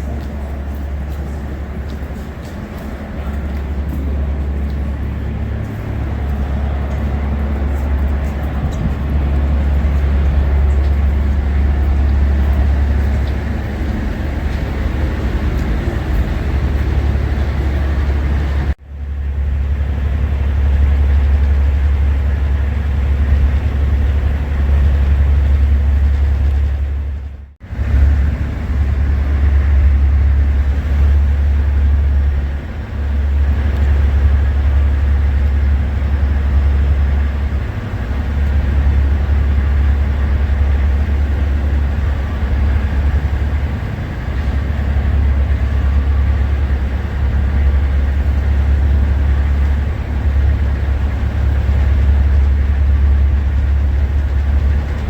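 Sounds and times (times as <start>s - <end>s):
storm wind buffeting microphone: 0.0s - 55.0s.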